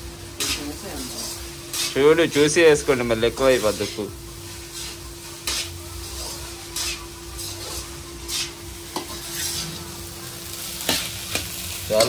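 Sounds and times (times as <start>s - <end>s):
rice sizzling: 0.0s - 12.0s
metal spatula scraping in a pan: 0.2s - 12.0s.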